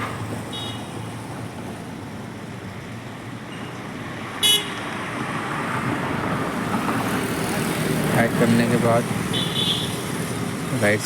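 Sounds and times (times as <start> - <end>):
traffic background noise: 0.0 - 11.0.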